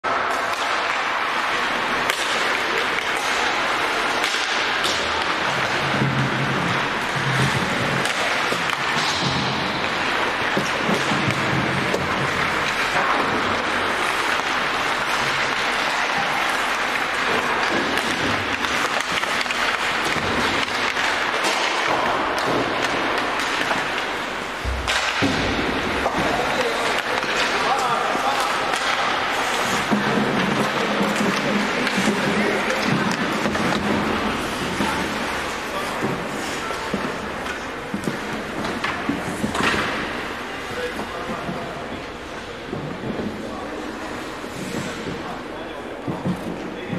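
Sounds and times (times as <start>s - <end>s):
arena noise: 0.0s - 46.9s
pucks striking boards: 0.1s - 46.9s
skates scraping on ice: 0.1s - 46.9s
sticks cracking on pucks: 0.3s - 40.4s.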